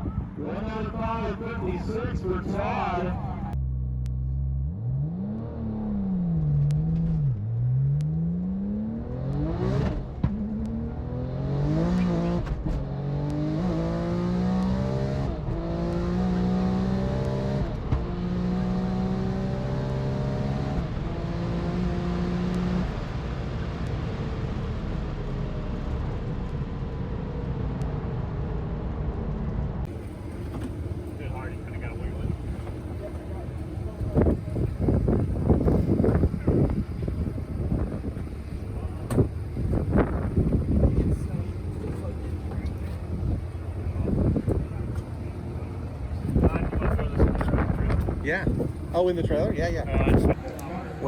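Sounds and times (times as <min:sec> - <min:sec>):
race car engine revving and accelerating: 0:00.4 - 0:51.0.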